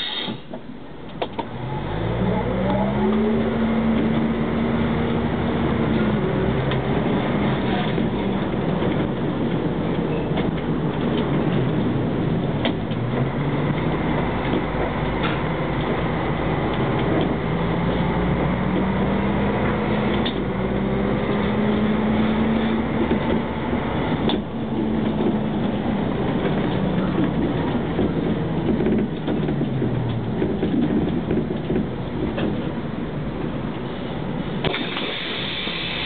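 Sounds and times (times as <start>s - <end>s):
bus engine running: 0.0s - 36.0s
road and body noise: 0.0s - 36.0s.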